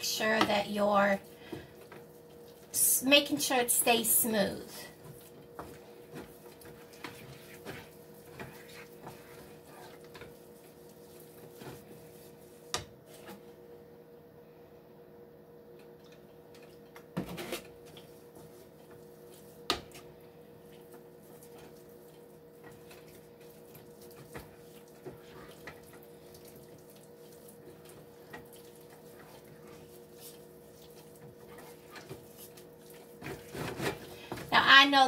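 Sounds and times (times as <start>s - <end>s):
wooden spoon scraping a pan: 0.0s - 13.4s, 17.2s - 35.0s.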